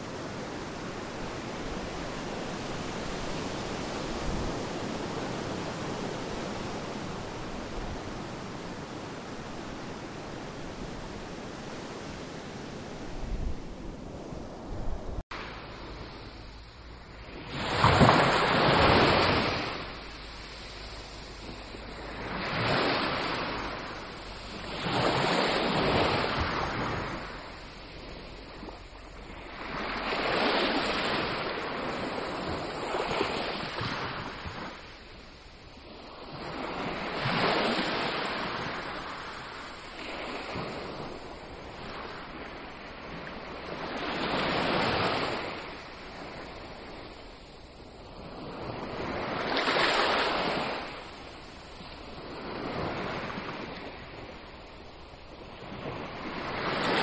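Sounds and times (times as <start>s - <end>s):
sea waves washing in: 0.0s - 57.0s.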